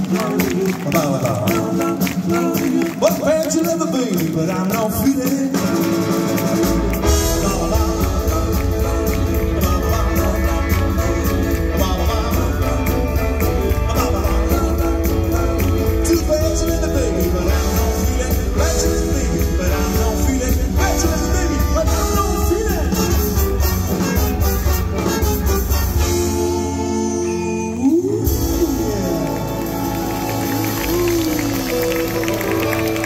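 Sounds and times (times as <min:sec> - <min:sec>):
electric guitar: 0:04.4 - 0:33.0
drum kit with cymbals: 0:04.9 - 0:32.6
bass line: 0:05.6 - 0:33.0.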